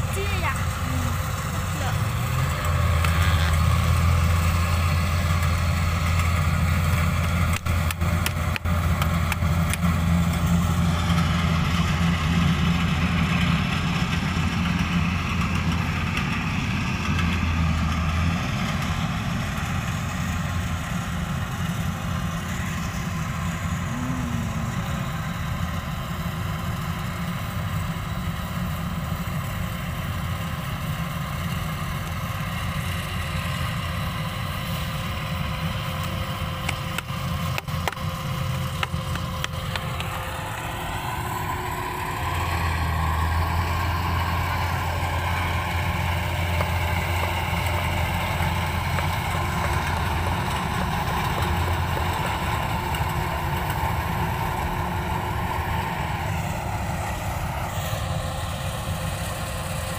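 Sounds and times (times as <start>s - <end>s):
harvester diesel engine running: 0.0s - 59.9s.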